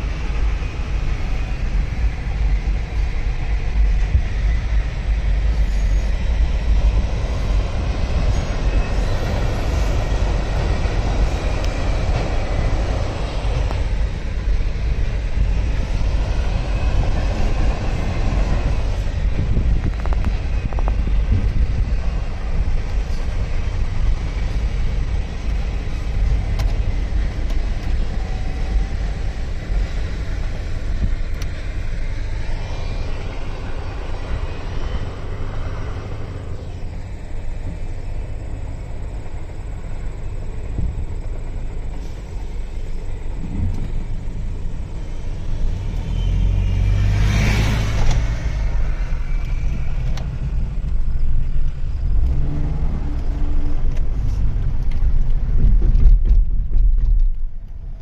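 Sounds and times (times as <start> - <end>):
car engine and road noise: 0.0 - 58.0
freight train cars rumbling: 0.0 - 58.0.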